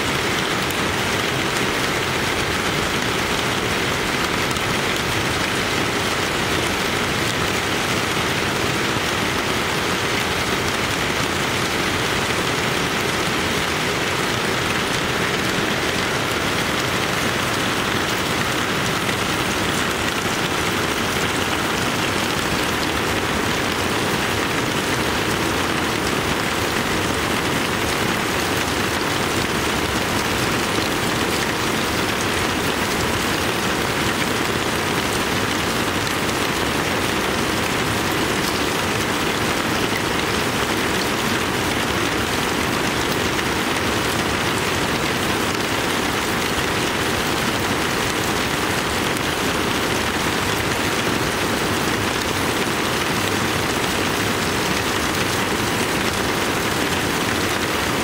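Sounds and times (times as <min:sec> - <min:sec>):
heavy rain on leaves and grass: 0:00.0 - 0:58.0
water pouring off a roof edge: 0:00.0 - 0:58.0.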